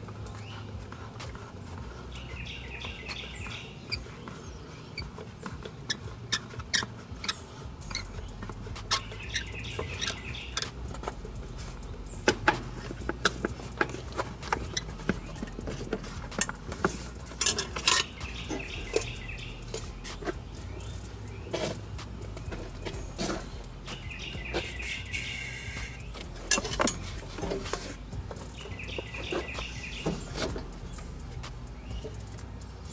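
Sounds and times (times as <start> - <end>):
bird calling: 0.0 - 32.9.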